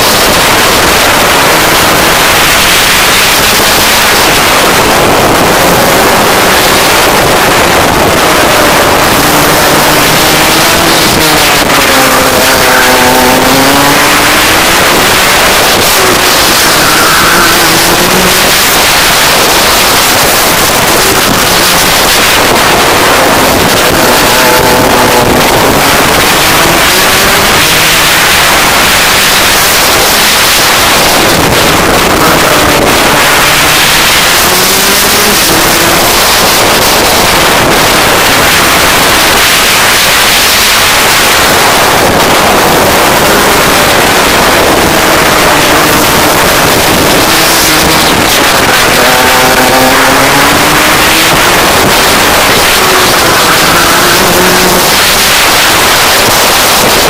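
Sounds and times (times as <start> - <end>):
kart engine revving: 0.0 - 57.0
wind noise on microphone: 0.0 - 57.0.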